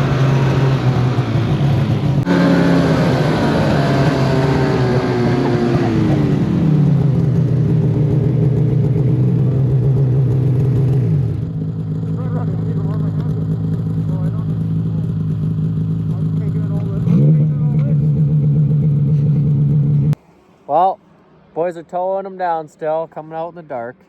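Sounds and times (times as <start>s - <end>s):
snowmobile engine running: 0.0s - 20.2s.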